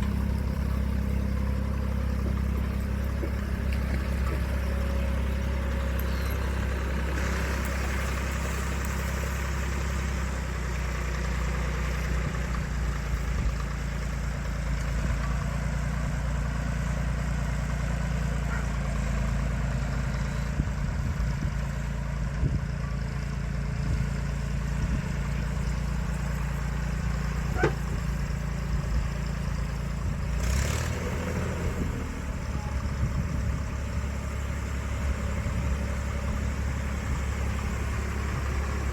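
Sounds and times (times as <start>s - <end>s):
digging machine engine running: 0.0s - 38.9s.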